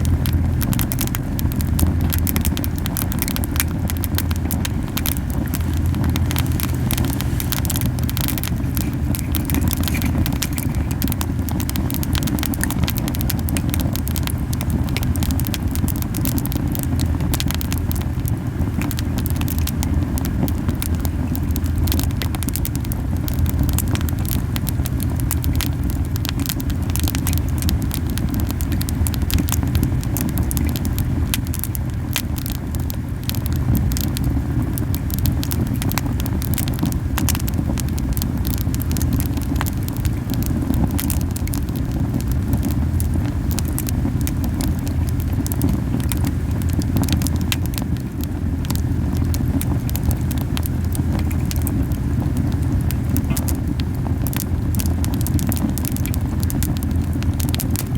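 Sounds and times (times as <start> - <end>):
fire crackling and popping: 0.0 - 57.9
wood fire rumbling: 0.0 - 57.9.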